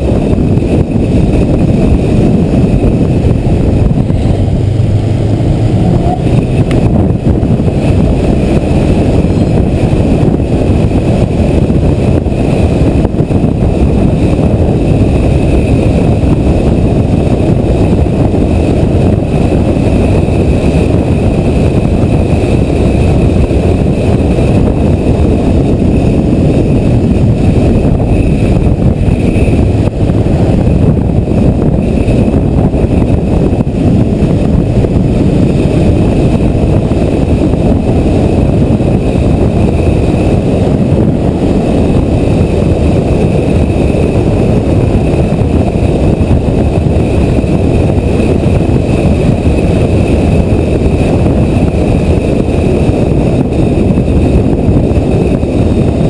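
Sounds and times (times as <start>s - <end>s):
faint steady whine: 0.0s - 56.0s
motorcycle engine rumble: 0.0s - 56.0s
wind noise: 0.0s - 56.0s.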